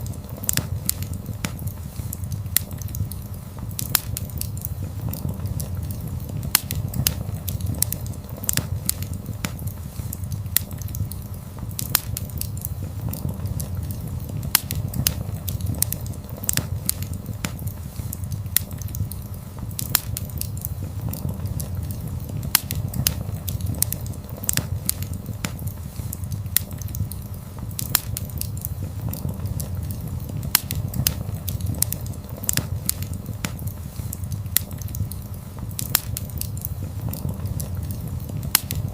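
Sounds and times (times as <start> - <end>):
low rumble: 0.0 - 38.9
wood fire crackling: 0.0 - 38.9.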